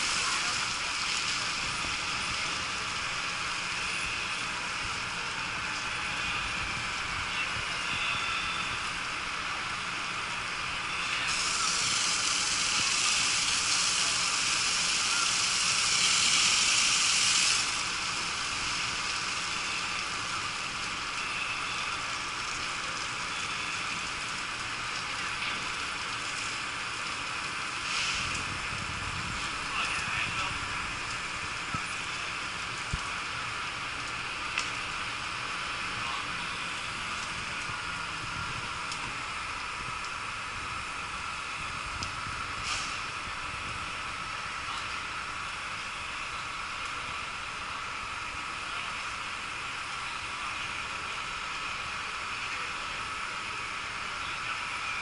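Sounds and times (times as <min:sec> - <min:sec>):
fire hose spraying water: 0:00.0 - 0:55.0.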